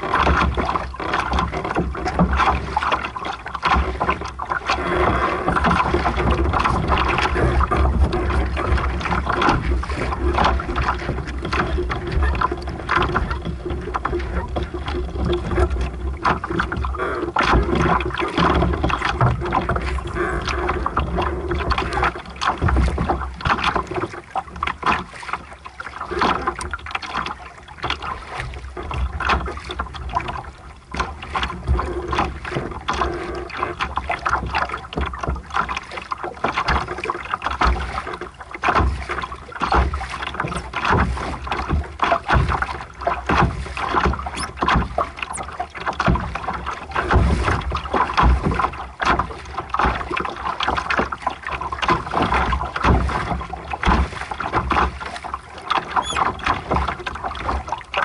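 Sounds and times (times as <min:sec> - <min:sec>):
water splashing along hull: 0:00.0 - 0:58.0.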